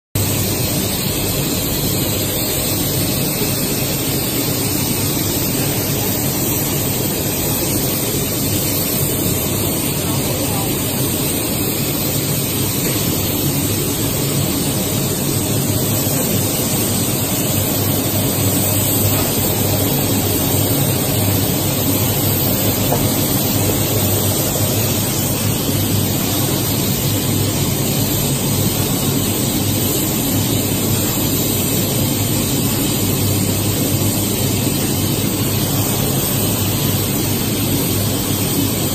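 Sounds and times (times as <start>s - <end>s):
machinery hiss: 0.2s - 38.9s.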